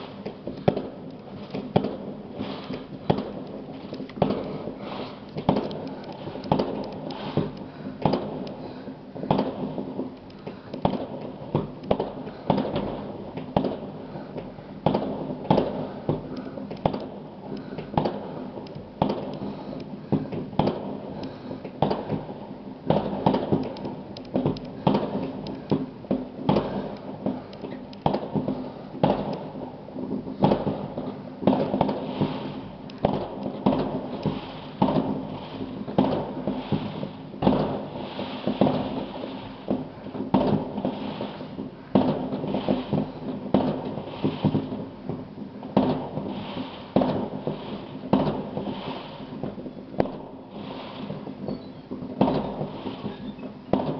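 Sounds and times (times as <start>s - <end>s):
fireworks bangs and pops: 0.0s - 53.9s.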